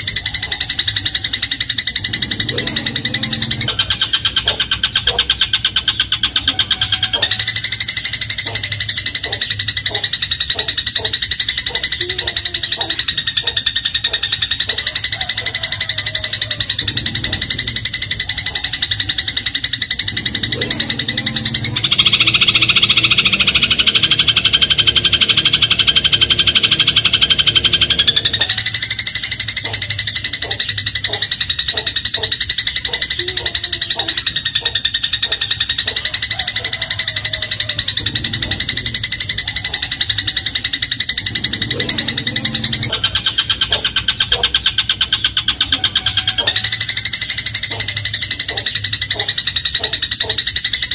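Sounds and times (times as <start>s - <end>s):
sparrow rattling chatter: 0.0s - 50.9s.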